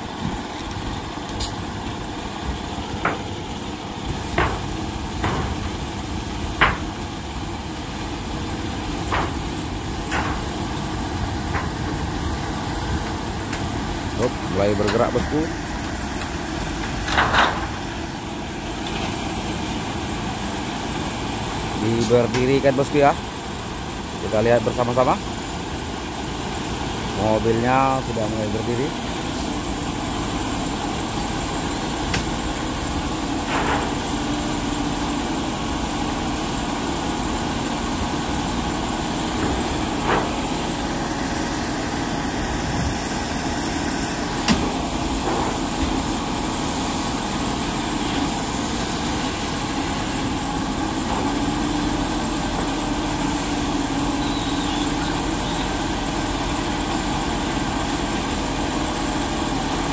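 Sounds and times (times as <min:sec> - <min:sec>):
heavy truck engines running: 0:00.0 - 0:59.9.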